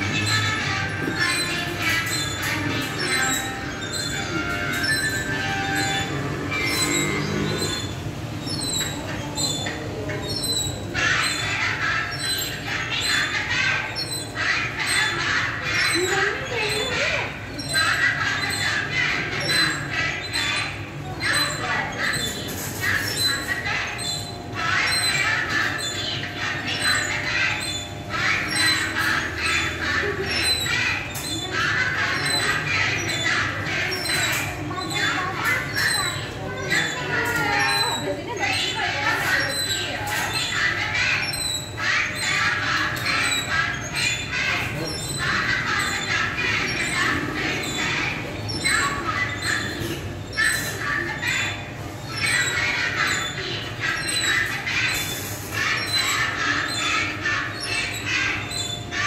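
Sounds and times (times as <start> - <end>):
electronic ride sounds: 0.0 - 59.0
low hum of hall: 0.0 - 59.0.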